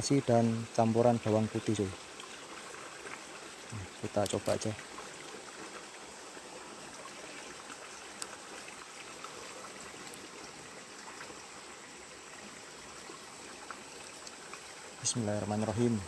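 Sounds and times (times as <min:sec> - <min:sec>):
small stream flowing: 0:00.0 - 0:16.0.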